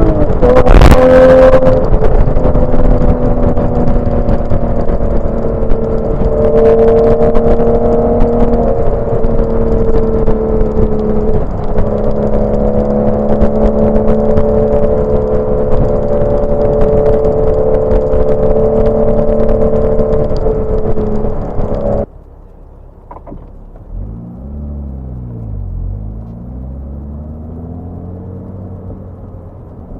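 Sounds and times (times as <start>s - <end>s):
car engine pulling: 0.0s - 29.9s
road noise: 0.0s - 29.9s.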